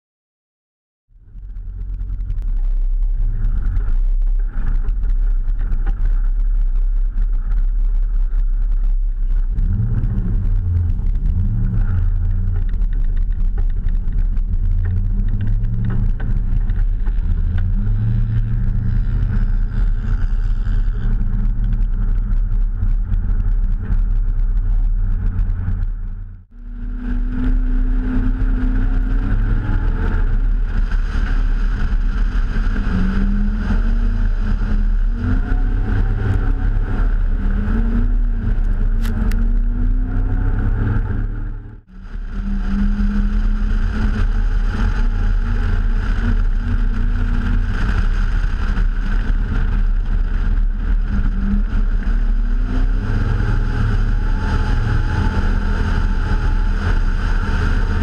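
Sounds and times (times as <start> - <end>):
wind noise on microphone: 1.1 - 58.0
car engine running: 1.2 - 58.0.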